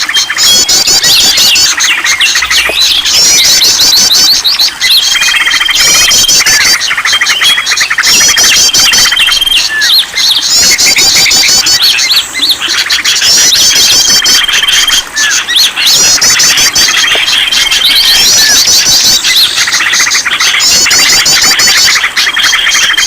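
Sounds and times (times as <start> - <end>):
songbirds singing and calling: 0.0 - 23.0.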